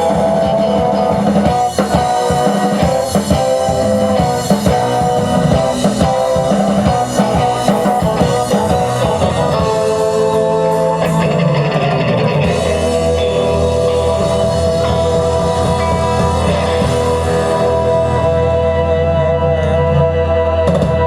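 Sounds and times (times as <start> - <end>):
bass line: 0.0 - 21.0
drums: 0.0 - 21.0
electric guitar: 0.0 - 21.0.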